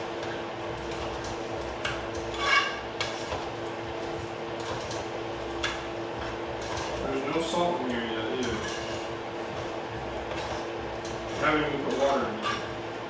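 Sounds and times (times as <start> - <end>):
steady low hum: 0.0 - 13.0
utensil stirring rice in pot: 0.0 - 13.0.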